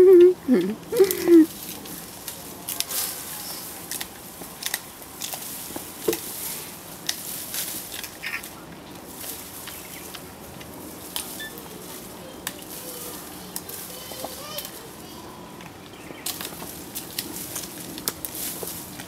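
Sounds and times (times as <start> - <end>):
panda chewing bamboo: 0.1 - 19.0.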